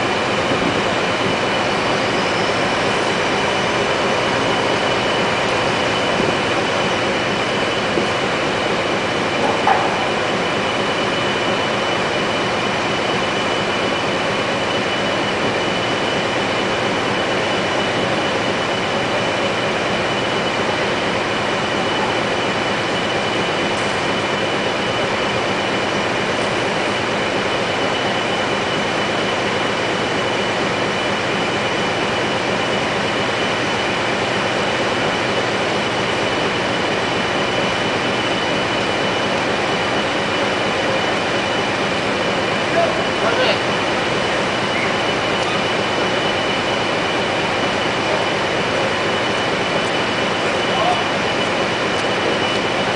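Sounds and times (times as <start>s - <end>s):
heavy machinery running with whine: 0.0s - 52.9s.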